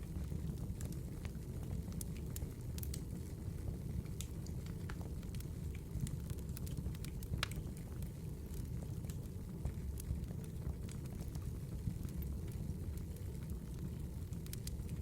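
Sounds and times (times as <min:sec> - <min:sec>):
fire crackling and popping: 0:00.0 - 0:15.0
fire low rumble: 0:00.0 - 0:15.0.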